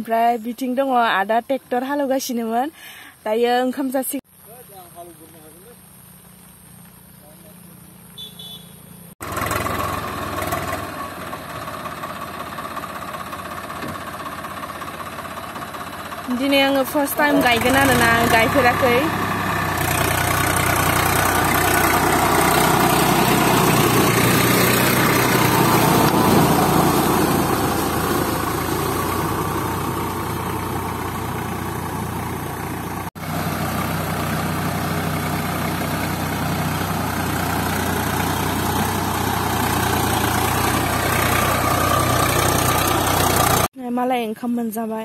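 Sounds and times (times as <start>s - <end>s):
tractor diesel engine running: 0.0s - 44.4s.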